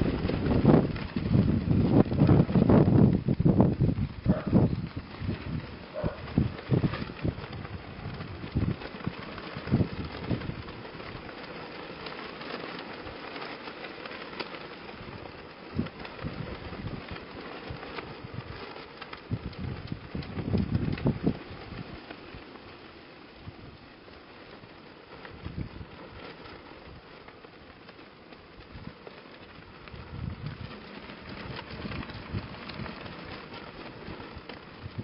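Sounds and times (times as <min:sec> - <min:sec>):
cloth streamers flapping: 0:00.0 - 0:35.0
wind buffeting microphone: 0:00.0 - 0:35.0.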